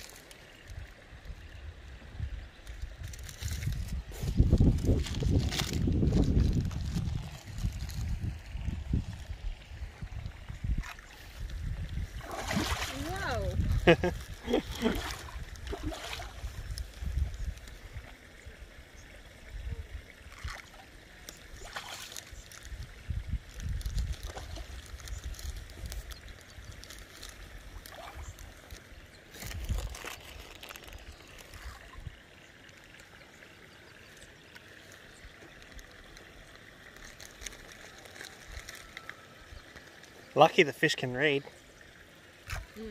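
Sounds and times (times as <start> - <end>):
fish splashing in a pond: 0.0 - 42.9.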